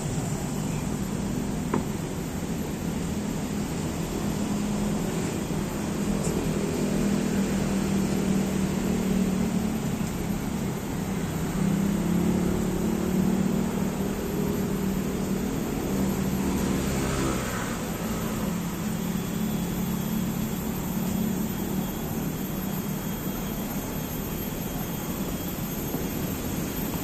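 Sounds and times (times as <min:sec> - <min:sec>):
road traffic engines humming: 0:00.0 - 0:27.0.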